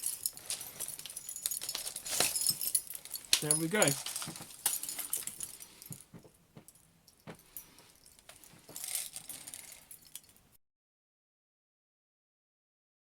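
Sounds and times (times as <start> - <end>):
short jangling rattle: 0.0 - 10.5.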